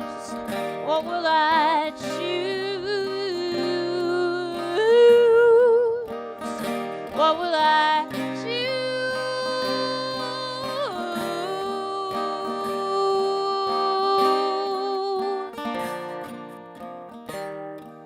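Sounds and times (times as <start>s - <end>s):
person singing folk song: 0.0s - 18.0s
strummed acoustic guitar: 0.0s - 18.0s.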